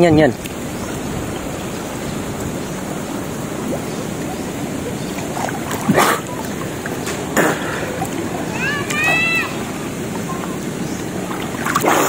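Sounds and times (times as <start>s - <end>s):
water sloshing and splashing: 0.0s - 12.0s
water surge: 0.0s - 12.0s.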